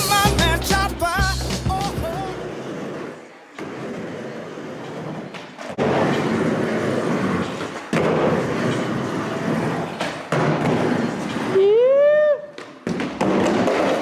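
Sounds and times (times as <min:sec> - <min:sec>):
skateboard wheels rolling on pavement: 0:00.0 - 0:14.0
skateboard clacks and thuds: 0:01.7 - 0:11.6, 0:12.6 - 0:14.0.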